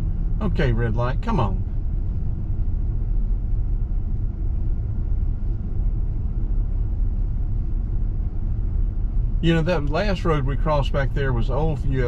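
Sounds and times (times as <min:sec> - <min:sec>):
idling car cabin rumble: 0:00.0 - 0:12.0.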